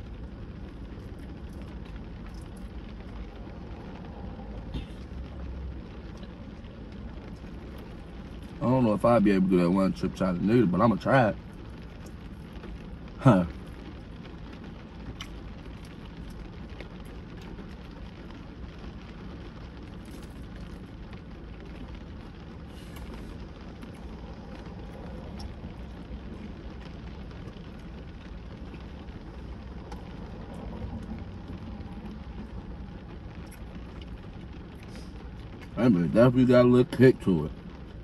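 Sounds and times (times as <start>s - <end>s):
car interior hum: 0.0s - 38.0s.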